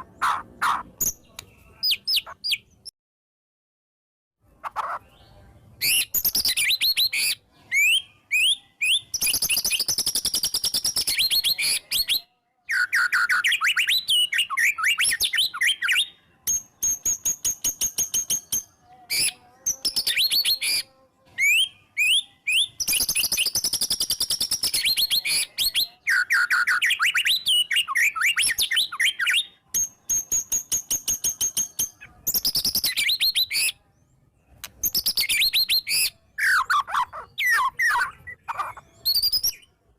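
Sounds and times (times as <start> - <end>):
songbird whistles and trills: 4.8 - 33.8, 34.5 - 39.8.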